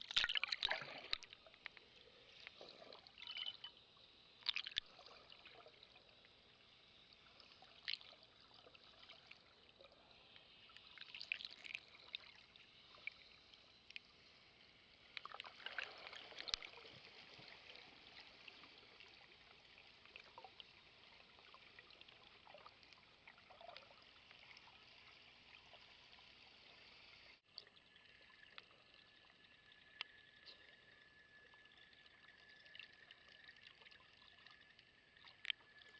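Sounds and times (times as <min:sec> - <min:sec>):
underwater clicks and crackles: 0:00.0 - 0:03.8, 0:04.4 - 0:25.9, 0:27.5 - 0:35.9
faint steady whine: 0:00.0 - 0:35.9
soft underwater hiss: 0:00.0 - 0:35.9.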